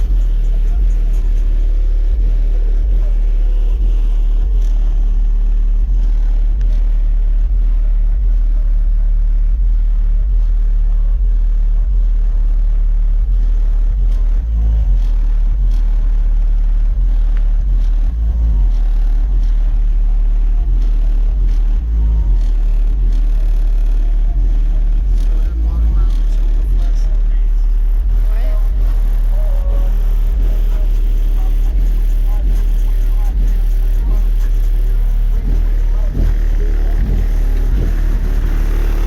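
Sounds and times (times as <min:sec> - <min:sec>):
deep bass pulsing from subwoofers: 0:00.0 - 0:39.0.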